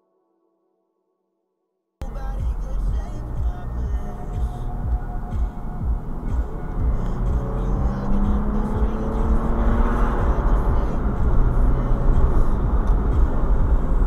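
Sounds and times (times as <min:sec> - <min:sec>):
car engine revving: 0:02.0 - 0:14.0
road noise inside car: 0:02.0 - 0:14.0.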